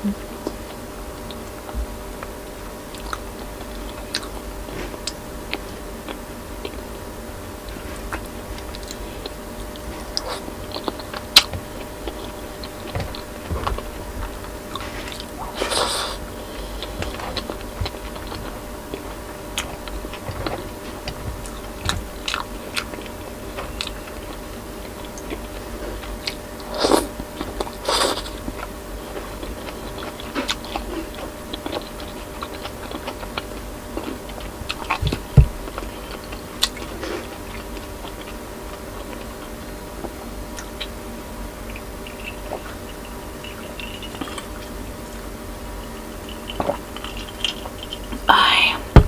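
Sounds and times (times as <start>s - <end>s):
chewing and wet mouth sounds: 0.0s - 48.8s
faint steady hum: 0.0s - 49.0s.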